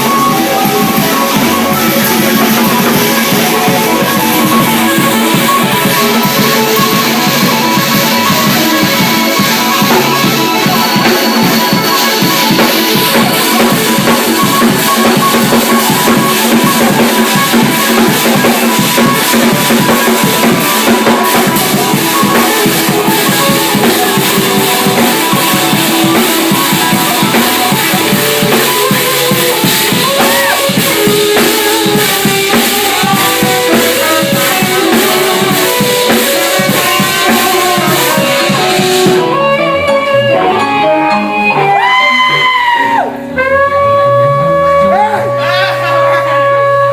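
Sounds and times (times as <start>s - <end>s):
band music: 0.0s - 46.9s
drum kit playing a busy beat: 0.0s - 46.9s.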